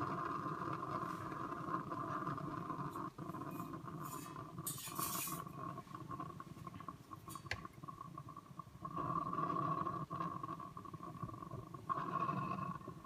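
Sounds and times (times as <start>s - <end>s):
espresso machine humming: 0.0s - 6.4s, 7.7s - 13.0s.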